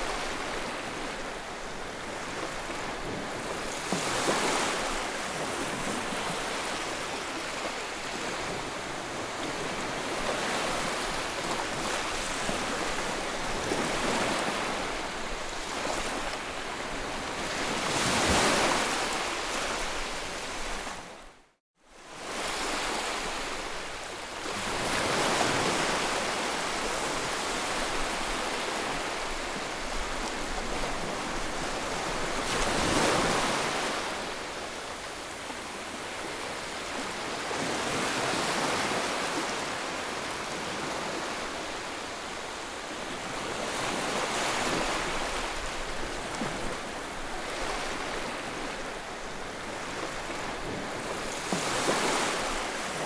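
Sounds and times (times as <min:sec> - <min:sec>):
ocean waves breaking: 0:00.0 - 0:21.1, 0:24.4 - 0:53.0.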